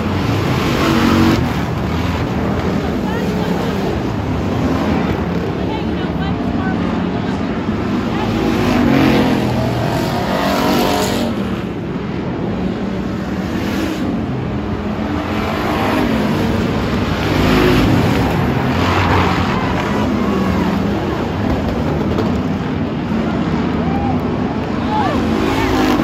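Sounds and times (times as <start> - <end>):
race car engines passing: 0.0 - 26.0.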